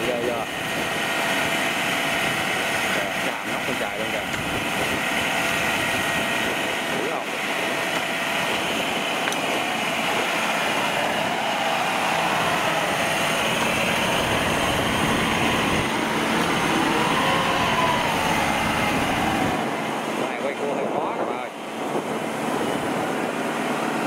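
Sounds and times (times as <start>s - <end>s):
combine harvester engine: 0.0s - 24.0s
faint machine whine: 0.0s - 24.0s.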